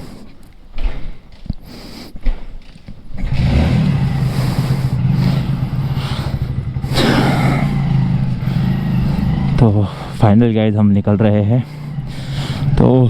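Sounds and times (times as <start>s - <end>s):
motorcycle engine idling: 2.3s - 13.0s.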